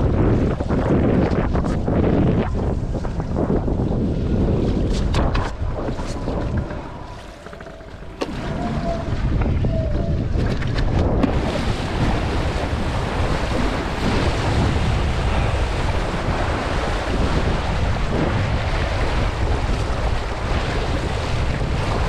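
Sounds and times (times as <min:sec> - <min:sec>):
wind buffeting microphone: 0:00.0 - 0:22.0
water rushing past board: 0:04.0 - 0:22.0.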